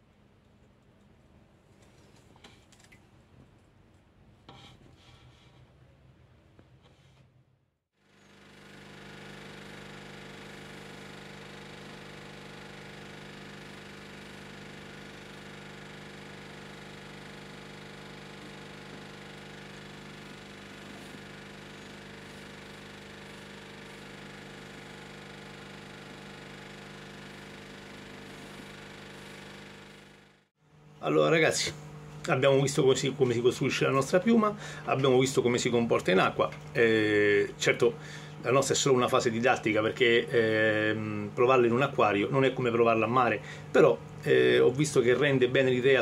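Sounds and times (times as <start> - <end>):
aquarium pump humming: 8.0 - 46.0.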